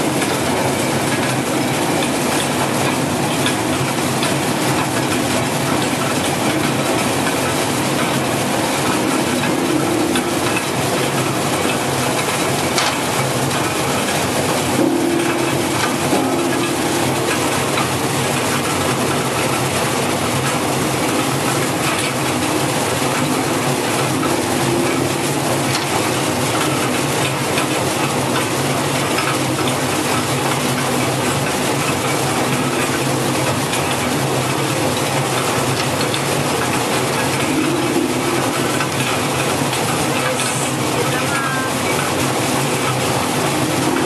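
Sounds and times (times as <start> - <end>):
low motor hum: 0.0 - 29.3, 35.0 - 44.0.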